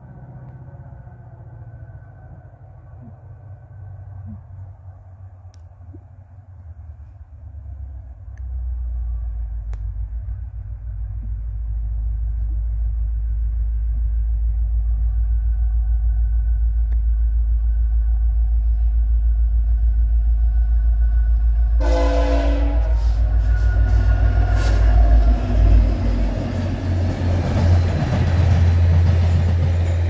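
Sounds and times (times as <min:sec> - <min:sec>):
faint engine hum: 0:00.0 - 0:28.6
approaching train rumble: 0:00.0 - 0:30.0.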